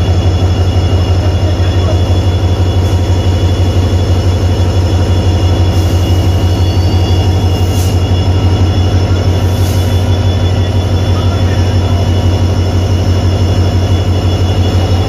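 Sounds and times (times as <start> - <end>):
diesel locomotive engine idling: 0.0 - 15.0
thin high whine: 0.0 - 15.0.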